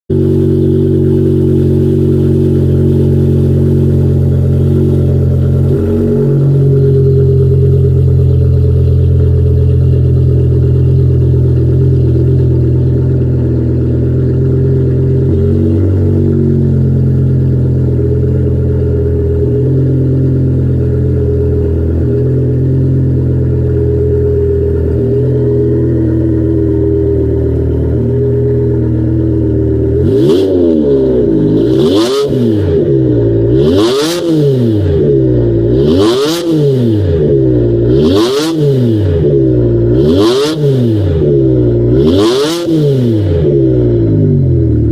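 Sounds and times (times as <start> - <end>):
car engine idling: 0.1 - 44.9.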